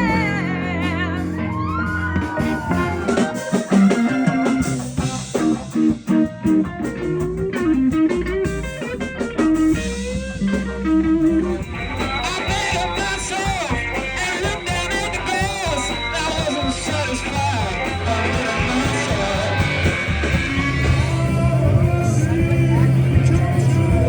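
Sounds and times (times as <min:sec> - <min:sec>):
live rock band playing: 0:00.0 - 0:24.0
sliding bending guitar notes: 0:00.0 - 0:24.0.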